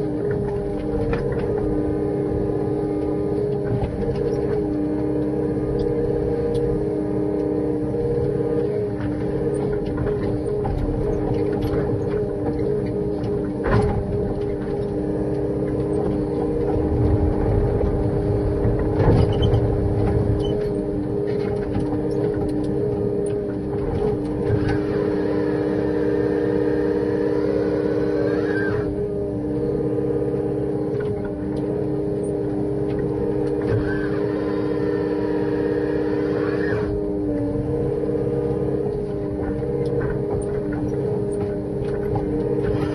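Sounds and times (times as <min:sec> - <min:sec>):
power unit drone and hum: 0:00.0 - 0:42.9.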